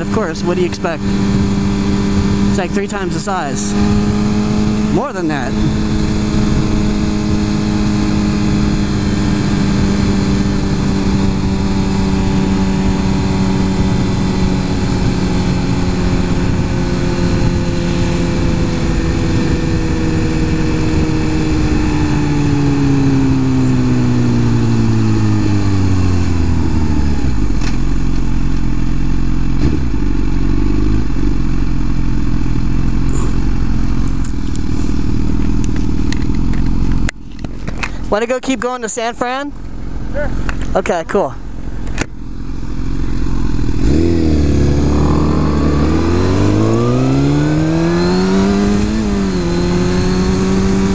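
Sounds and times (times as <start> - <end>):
motorcycle engine running and idling: 0.0 - 38.2, 39.5 - 46.1.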